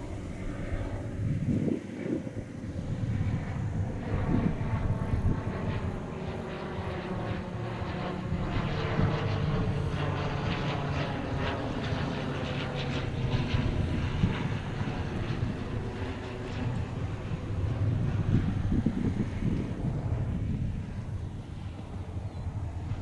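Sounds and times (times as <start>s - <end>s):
propeller engine droning: 0.0s - 23.0s.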